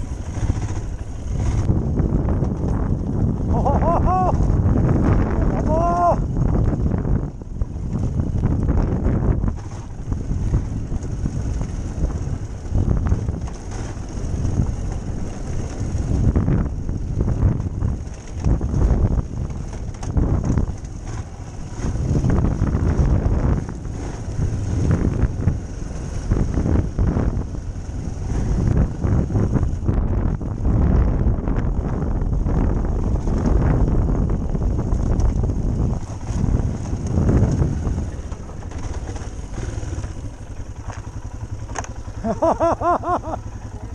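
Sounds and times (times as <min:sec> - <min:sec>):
motorcycle engine rumble: 0:00.0 - 0:43.9
wind buffeting microphone: 0:00.0 - 0:43.9.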